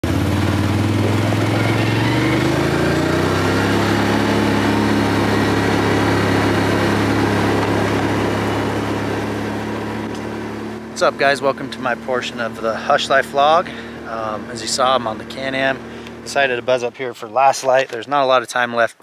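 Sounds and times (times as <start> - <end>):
atv engine accelerating: 0.0 - 17.2.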